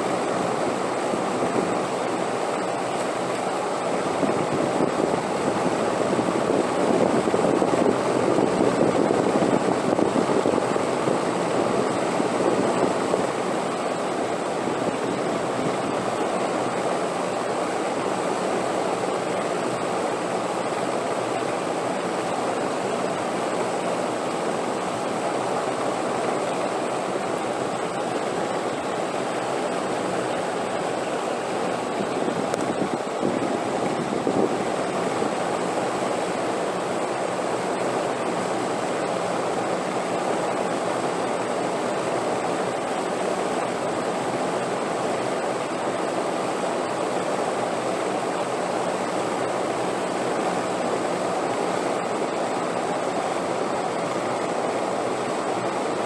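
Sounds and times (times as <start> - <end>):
rushing wind: 0.0 - 19.9, 21.3 - 56.0.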